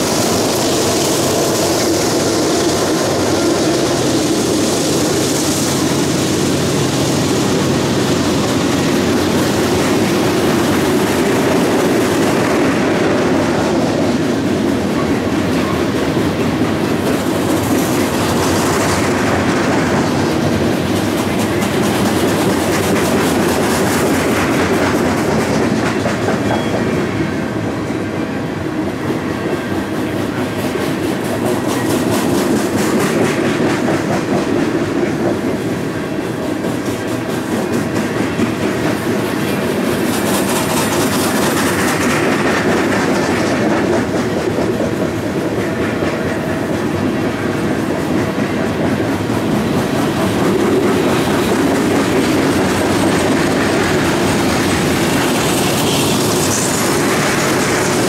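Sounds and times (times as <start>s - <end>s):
freight train wheels rumbling: 0.0s - 58.0s
wheels clickety-clack on rail joints: 0.0s - 58.0s.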